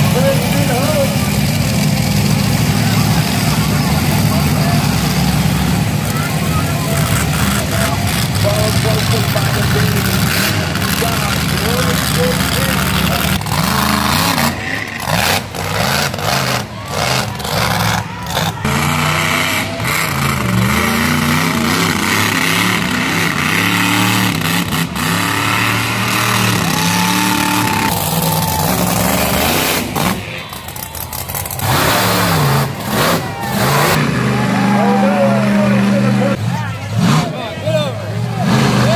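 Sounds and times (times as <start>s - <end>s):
monster truck engine revving: 0.0s - 38.9s.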